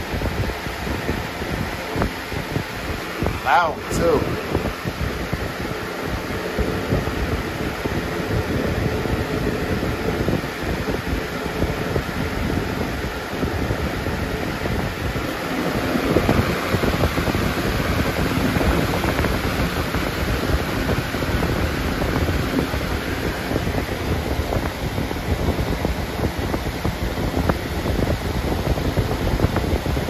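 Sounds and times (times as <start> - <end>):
box fan rushing air: 0.0 - 30.0
wind buffeting microphone: 0.0 - 30.0.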